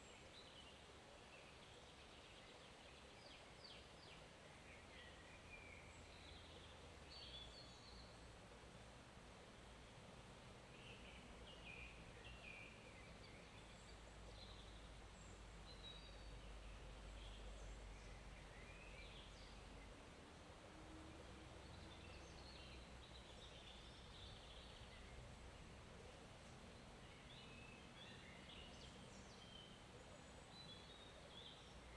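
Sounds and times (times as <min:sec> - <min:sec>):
steady background hiss: 0:00.0 - 0:31.9.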